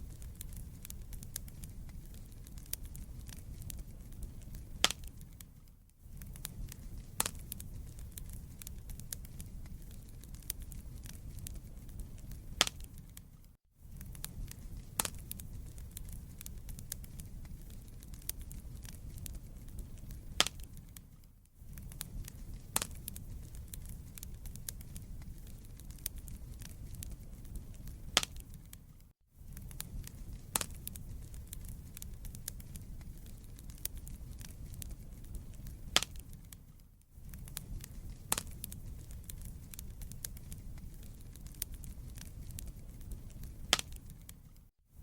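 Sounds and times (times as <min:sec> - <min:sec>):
burning logs popping: 0:00.0 - 0:44.7
low rumble of flames: 0:00.0 - 0:44.7
wood fire crackling: 0:00.0 - 0:45.0.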